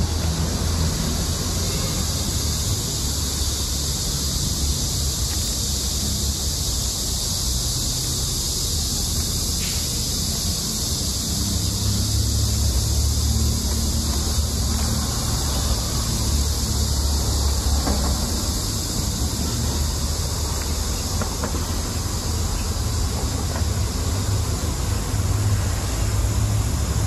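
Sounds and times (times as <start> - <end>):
even high hiss: 0.0 - 27.0.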